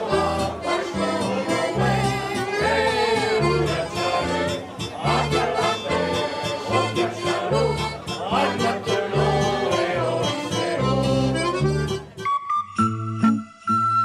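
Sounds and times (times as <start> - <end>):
group singing a folk song: 0.0 - 12.0
keyboard accompaniment: 0.0 - 14.0.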